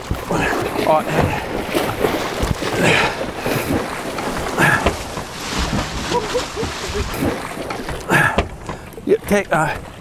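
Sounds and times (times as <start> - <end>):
fish thrashing and splashing: 0.0 - 8.9.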